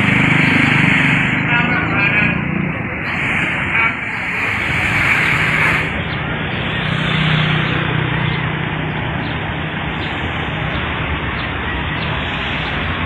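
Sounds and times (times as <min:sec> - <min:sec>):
road traffic rush: 0:00.0 - 0:13.0
vehicle engine humming: 0:00.0 - 0:13.0.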